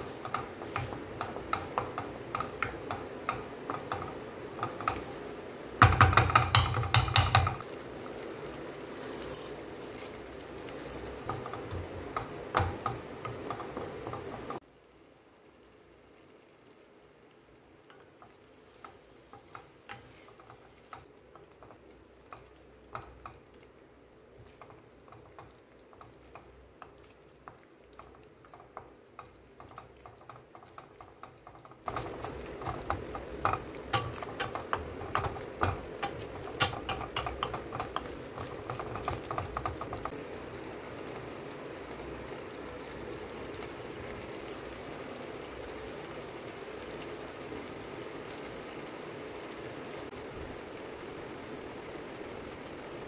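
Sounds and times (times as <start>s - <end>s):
paste simmering hiss: 0.0s - 53.0s.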